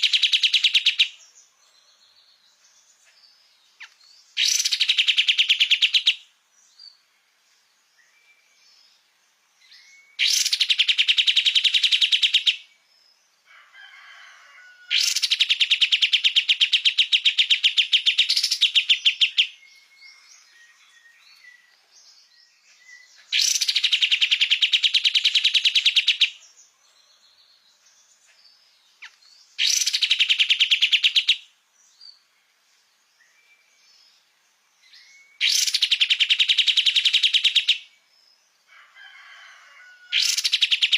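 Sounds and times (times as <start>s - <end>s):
songbird rapid repeated song: 0.0s - 40.9s.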